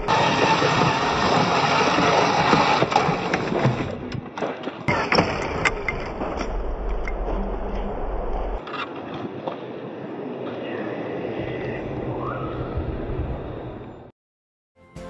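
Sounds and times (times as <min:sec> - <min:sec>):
tyres churning dirt: 0:00.0 - 0:13.7.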